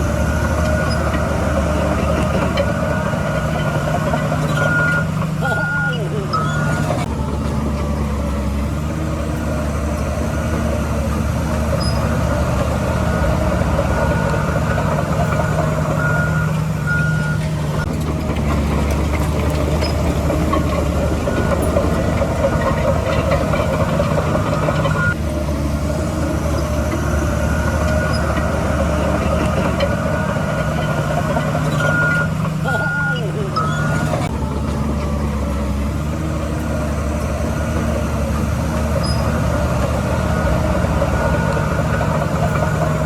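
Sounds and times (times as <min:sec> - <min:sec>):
reversing alarm beeping: 0:00.0 - 0:07.4, 0:10.0 - 0:17.9, 0:19.3 - 0:25.2, 0:26.4 - 0:34.9, 0:36.7 - 0:43.0
diesel construction machinery running: 0:00.0 - 0:43.0.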